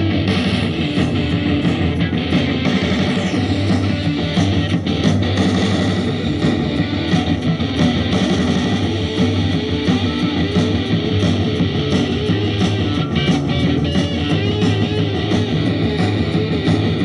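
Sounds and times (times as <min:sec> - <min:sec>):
rock band with guitar: 0:00.0 - 0:17.0.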